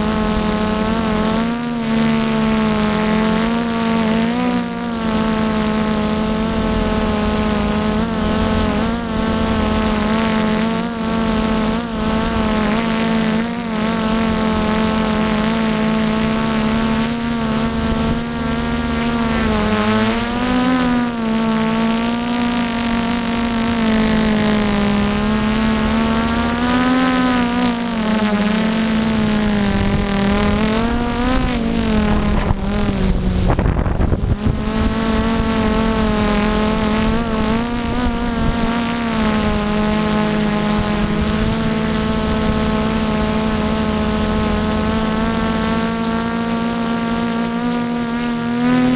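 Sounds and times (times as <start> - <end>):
drone motors humming: 0.0 - 48.9
thin high whine: 0.0 - 48.9.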